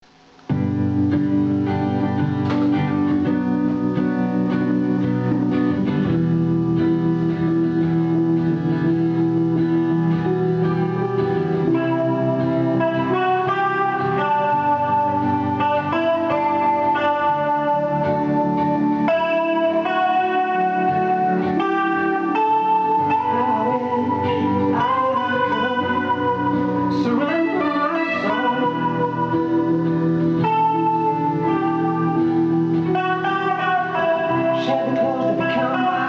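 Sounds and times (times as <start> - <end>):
guitar playing slow melody: 0.0 - 36.0.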